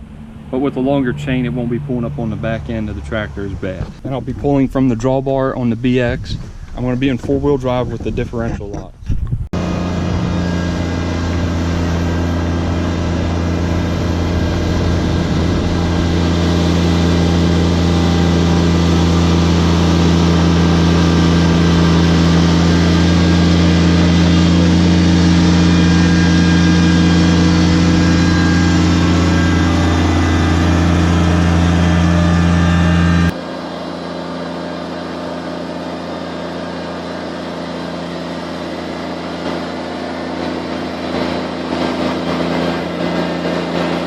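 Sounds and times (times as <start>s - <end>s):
diesel tractor engine revving high: 0.0s - 6.7s, 9.6s - 44.0s.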